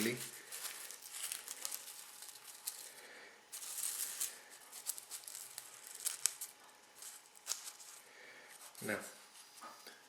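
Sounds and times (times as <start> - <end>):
tobacco leaf rustling: 0.0 - 9.5.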